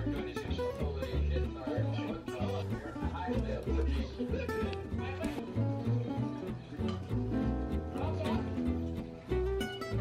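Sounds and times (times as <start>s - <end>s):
guitar music with bass and beat: 0.0s - 10.0s.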